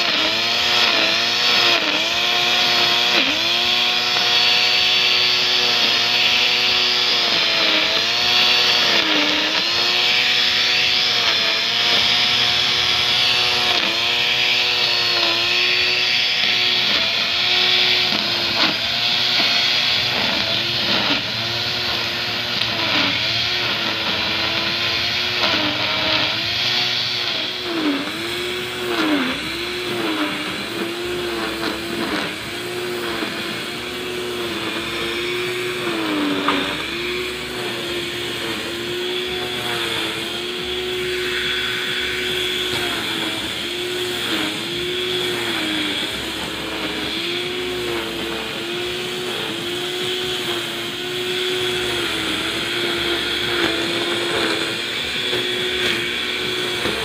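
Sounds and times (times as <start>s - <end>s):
grinder motor whine: 0.0s - 57.0s
nylon line cutting grass: 0.0s - 57.0s.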